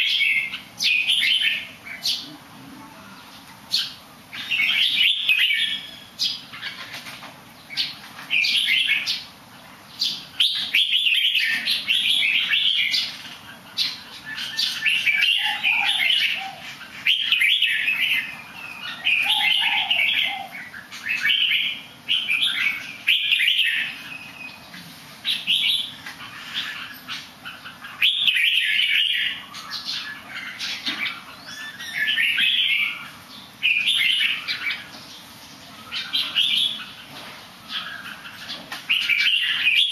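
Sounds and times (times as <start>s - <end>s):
songbird singing bright phrases: 0.0s - 6.9s, 7.5s - 39.9s.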